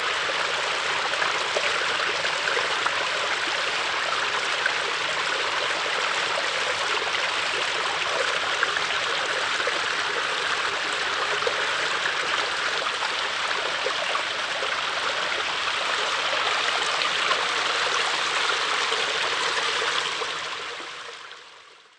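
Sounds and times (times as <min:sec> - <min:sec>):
brook water running: 0:00.0 - 0:21.9.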